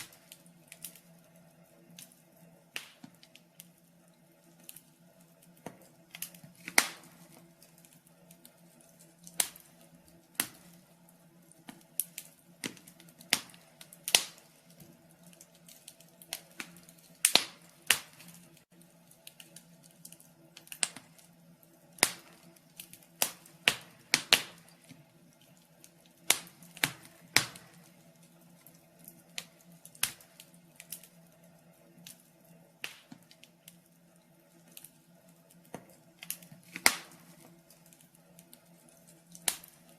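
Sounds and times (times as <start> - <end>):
faint steady hum: 0.0 - 39.9
firewood crackling: 0.0 - 39.9.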